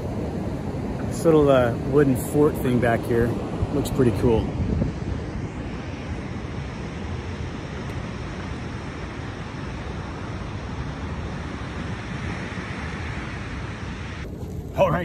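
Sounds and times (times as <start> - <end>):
ocean surf on a beach: 0.0 - 15.0
wind buffeting microphone: 0.0 - 15.0.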